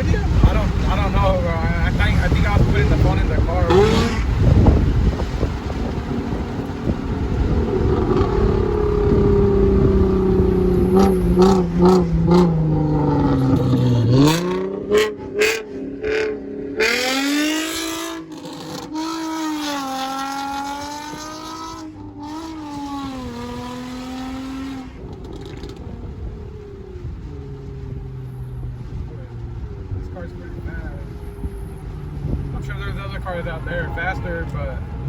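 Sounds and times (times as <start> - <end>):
car engine revving hard: 0.0 - 35.0.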